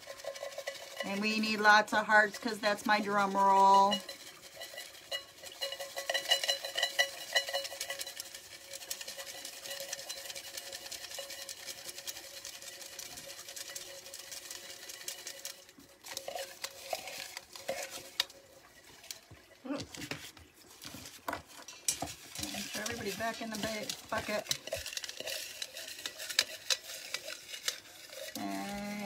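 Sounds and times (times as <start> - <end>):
paper slips rattling in metal bucket: 0.0 - 29.0.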